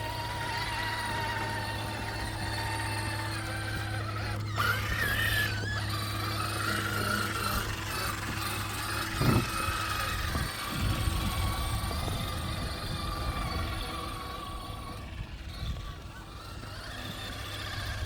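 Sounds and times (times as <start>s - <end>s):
rc car motor whining: 0.0s - 18.0s
steady low hum: 0.0s - 18.0s.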